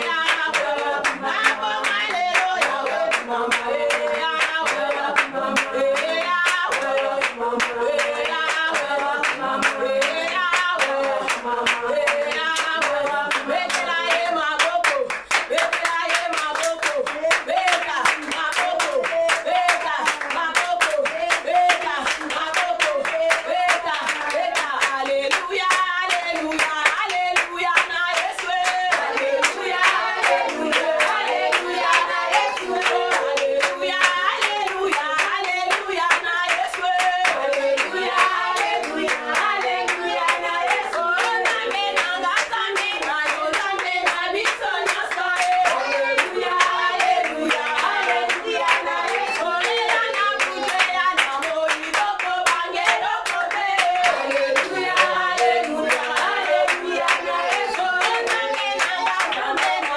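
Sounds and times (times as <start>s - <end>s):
congregation clapping rhythmically: 0.0s - 59.9s
worship singing: 0.0s - 59.9s.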